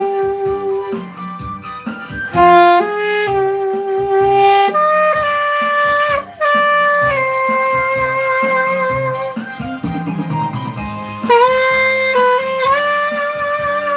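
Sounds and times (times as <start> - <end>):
backing accompaniment with beat: 0.0 - 13.9
saxophone slow melody: 0.0 - 13.9.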